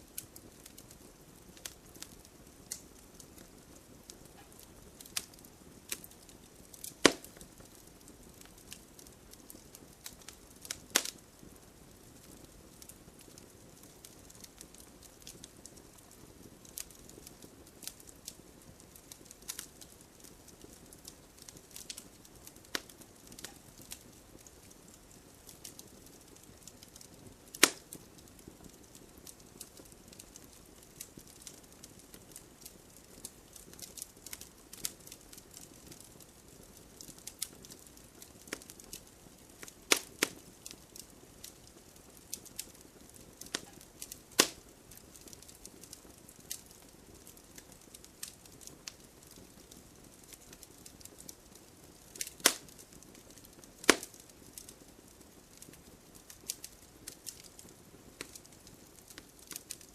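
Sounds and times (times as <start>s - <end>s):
campfire crackling and popping: 0.0s - 59.9s
low hiss of burning: 0.0s - 59.9s.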